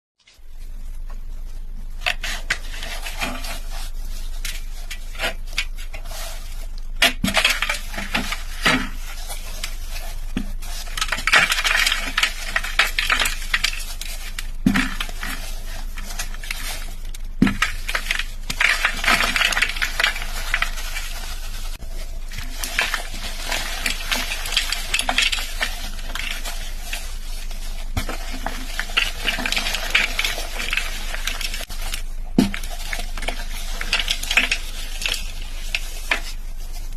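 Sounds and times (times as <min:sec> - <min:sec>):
chalk crunching and snapping: 0:00.7 - 0:36.9.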